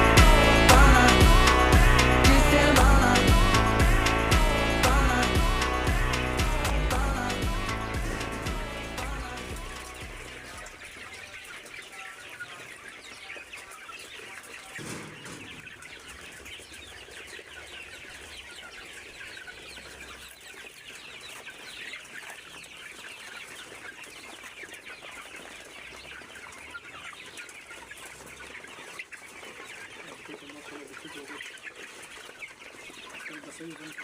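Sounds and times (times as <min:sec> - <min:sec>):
chicks peeping: 0:00.0 - 0:34.0
hens clucking: 0:00.0 - 0:34.0.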